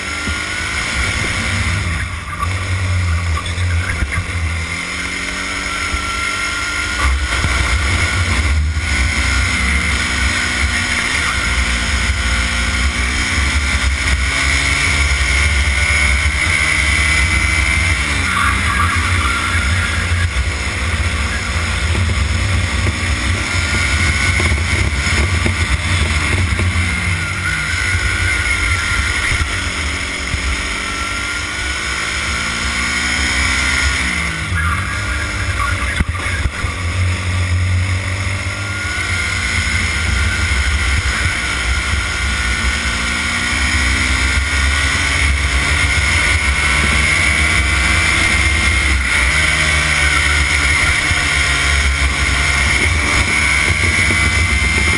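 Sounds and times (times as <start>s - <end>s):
racing kart engine: 0.0s - 54.9s.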